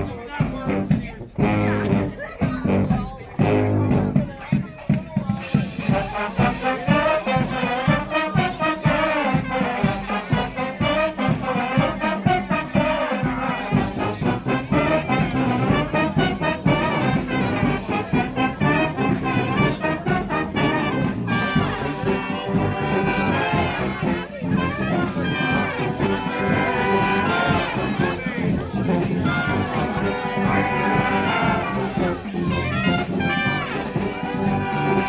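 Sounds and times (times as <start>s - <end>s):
brass band playing: 0.0s - 35.0s
steady drum beat: 0.0s - 35.0s.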